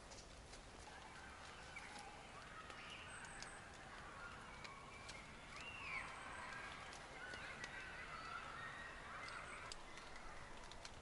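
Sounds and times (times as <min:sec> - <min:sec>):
bird calls: 0:00.0 - 0:11.0
footsteps on leafy trail: 0:00.0 - 0:11.0.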